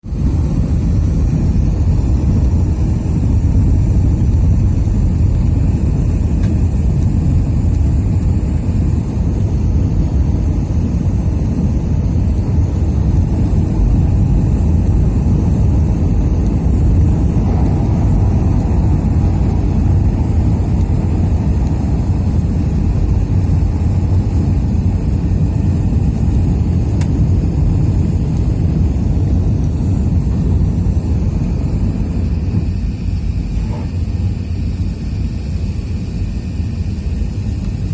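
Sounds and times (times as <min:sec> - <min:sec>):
jet engines rumbling in cabin: 0:00.0 - 0:37.9
faint high whine: 0:00.1 - 0:37.9.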